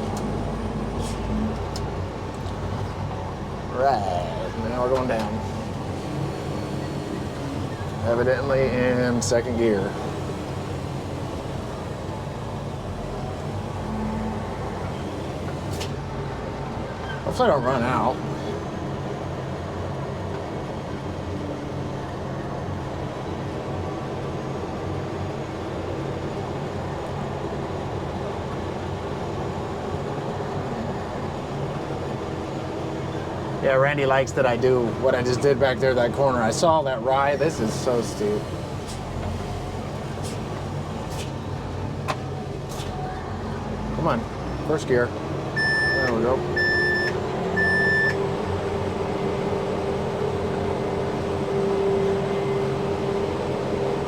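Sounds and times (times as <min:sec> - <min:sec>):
diesel engine low drone: 0:00.0 - 0:54.0.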